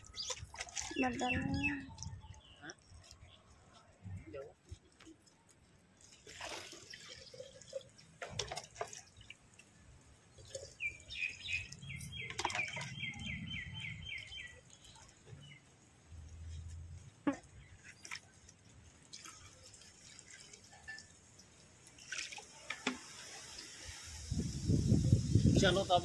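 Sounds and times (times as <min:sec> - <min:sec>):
water splashing in bucket: 0:00.0 - 0:03.8, 0:05.9 - 0:25.7
water pouring and dripping: 0:00.0 - 0:26.0.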